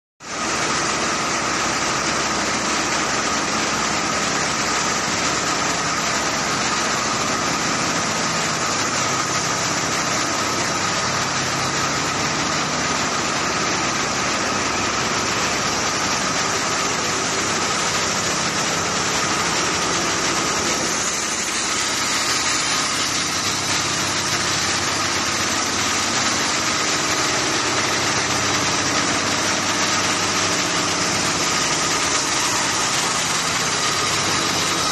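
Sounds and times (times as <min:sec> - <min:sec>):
knitting machine running: 0:00.3 - 0:34.9
constant high whine: 0:00.5 - 0:34.9.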